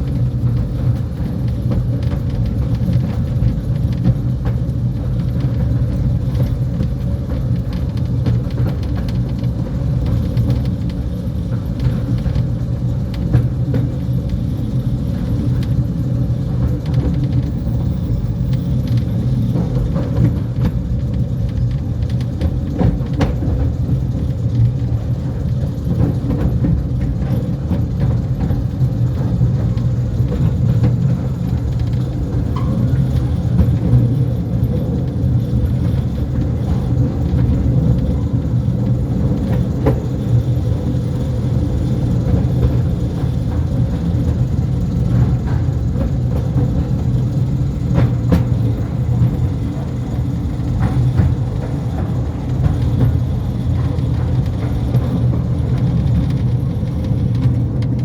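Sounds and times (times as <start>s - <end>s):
electric train rumbling on track: 0.0s - 58.0s.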